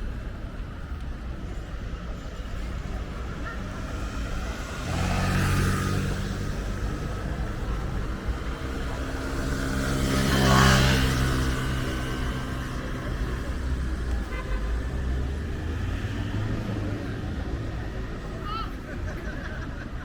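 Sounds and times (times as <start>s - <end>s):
vehicles driving past: 0.0s - 20.0s.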